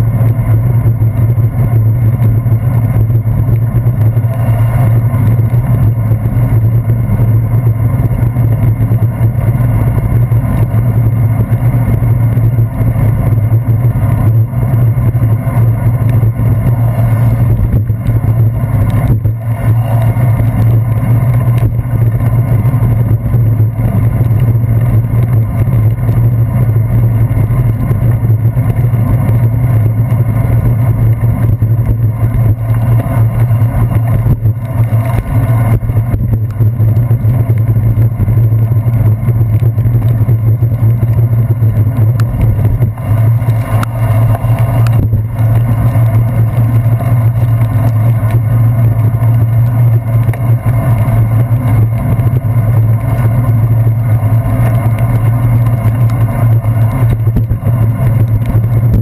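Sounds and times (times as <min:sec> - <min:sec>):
bicycle rumbling over wet pavement: 0:00.0 - 0:59.0
wind noise: 0:00.0 - 0:59.0.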